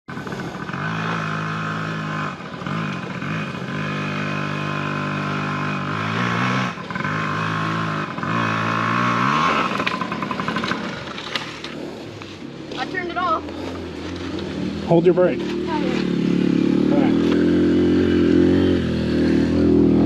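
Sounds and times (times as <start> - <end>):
dirt bike engine revving: 0.1 - 20.0.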